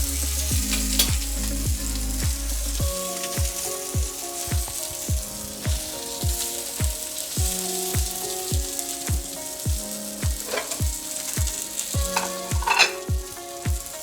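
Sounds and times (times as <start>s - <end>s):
background music with steady beat: 0.0s - 14.0s
fish sizzling in a pan: 0.0s - 14.0s.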